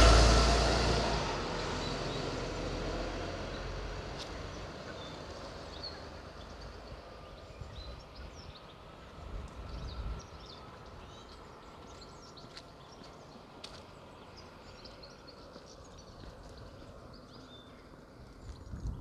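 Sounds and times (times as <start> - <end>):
faint outdoor background noise: 0.0 - 19.0
small birds chirping and twittering: 1.6 - 19.0.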